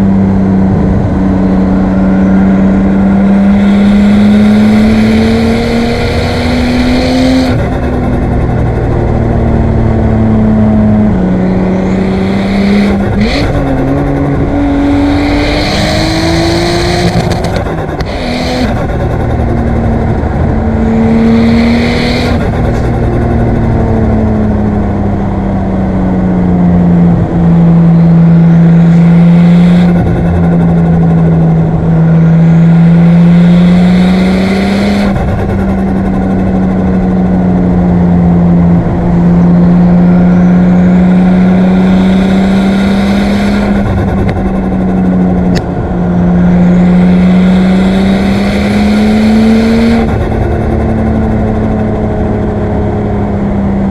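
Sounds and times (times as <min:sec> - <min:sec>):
car engine pulling: 0:00.0 - 0:53.9.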